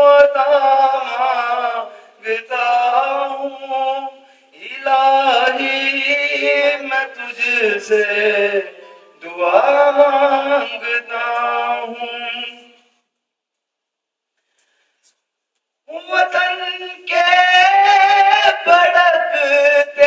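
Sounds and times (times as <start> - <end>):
man singing unaccompanied: 0.0 - 12.9, 15.8 - 20.0.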